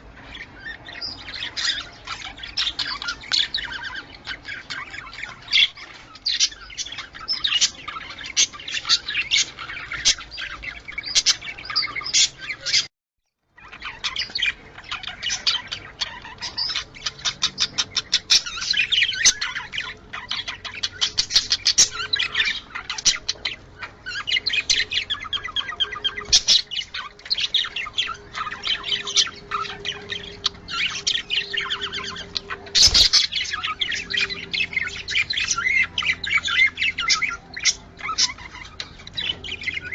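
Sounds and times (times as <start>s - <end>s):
budgerigars chattering and chirping: 0.0s - 12.9s, 13.6s - 39.9s.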